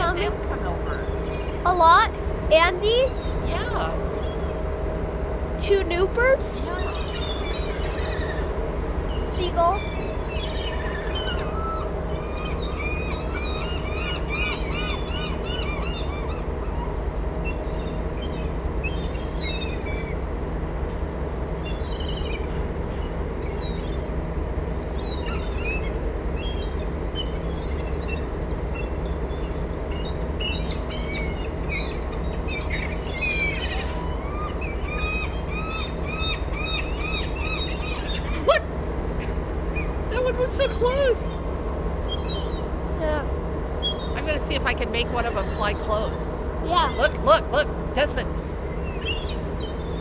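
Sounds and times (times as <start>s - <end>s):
seagulls squawking: 0.0s - 5.3s, 5.9s - 42.9s, 43.6s - 50.0s
low mechanical hum: 0.0s - 50.0s.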